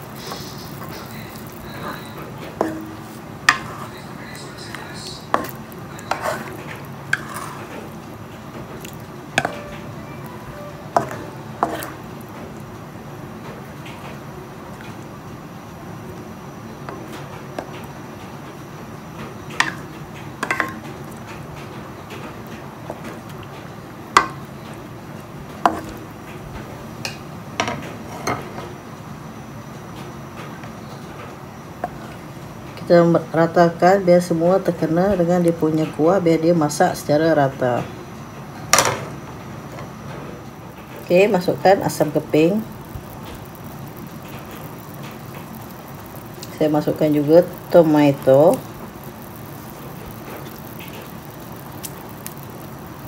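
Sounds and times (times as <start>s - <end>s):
broth simmering: 0.0s - 27.6s, 29.2s - 35.7s, 39.4s - 53.0s.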